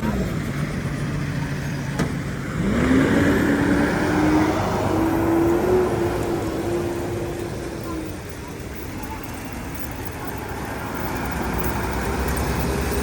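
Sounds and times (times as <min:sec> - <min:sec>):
traffic rumble: 0:00.0 - 0:13.0
vehicle engine accelerating: 0:00.0 - 0:13.0.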